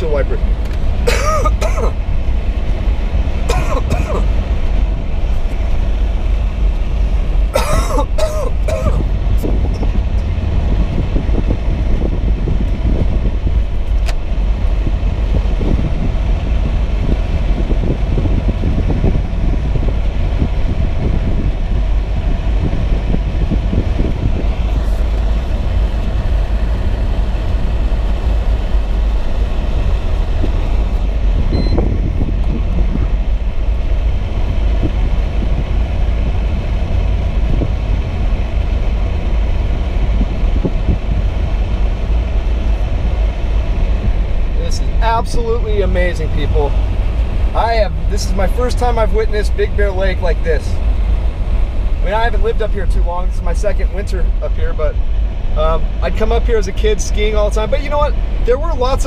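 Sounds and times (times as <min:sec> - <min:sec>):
car driving through deep snow: 0:00.1 - 0:52.4.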